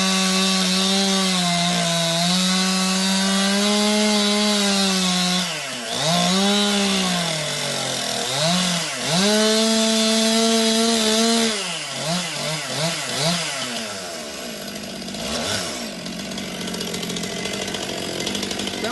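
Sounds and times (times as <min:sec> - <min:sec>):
chainsaw engine revving: 0:00.0 - 0:18.9.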